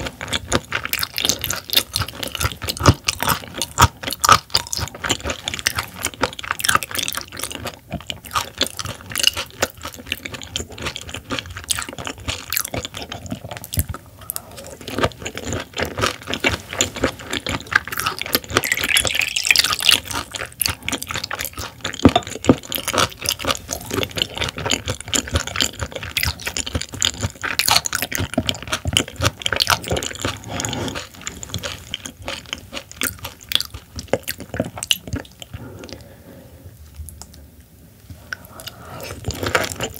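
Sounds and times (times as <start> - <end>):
chewing mouth sounds: 0.0 - 36.1, 38.2 - 39.9.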